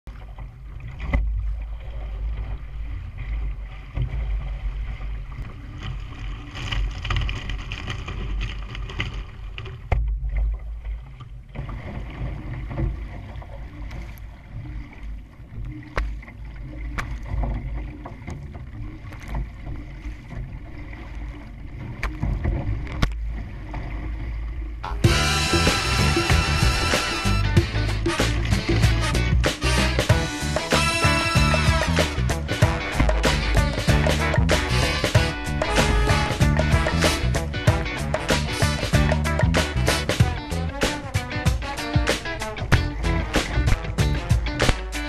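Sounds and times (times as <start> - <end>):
water splashing along hull: 0.0 - 45.0.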